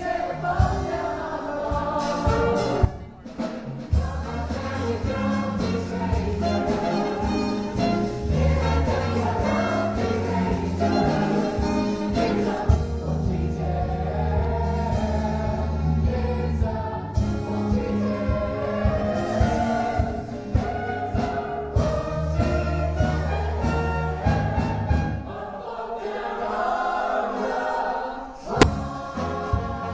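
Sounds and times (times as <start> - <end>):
ensemble singing in chorus: 0.0 - 3.2, 3.8 - 29.9
percussion: 0.0 - 25.5, 28.5 - 29.9.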